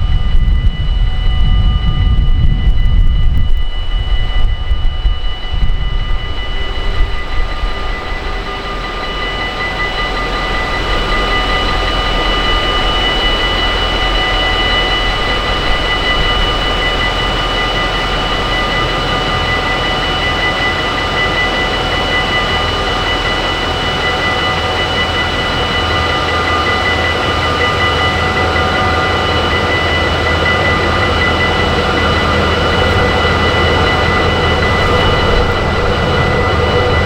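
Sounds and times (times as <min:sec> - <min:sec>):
wind rumble on microphone: 0:00.0 - 0:22.2, 0:22.8 - 0:37.0
train whining and rolling: 0:00.0 - 0:37.0.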